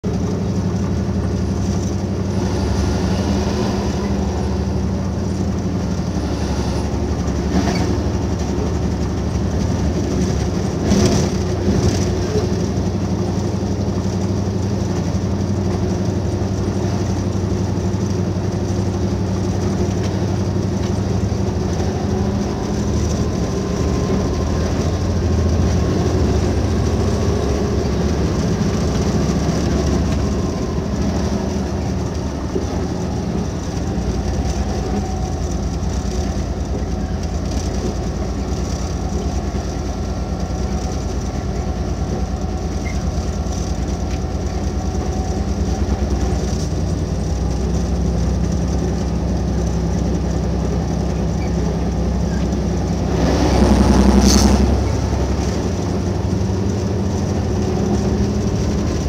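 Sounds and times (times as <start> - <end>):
locomotive engine drone: 0.0 - 59.0
wheel on rail rumble: 0.0 - 59.0.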